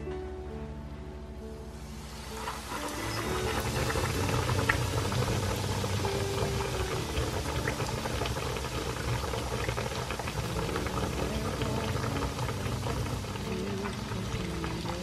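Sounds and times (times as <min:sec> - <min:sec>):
oil sizzling and crackling: 0:01.7 - 0:15.0.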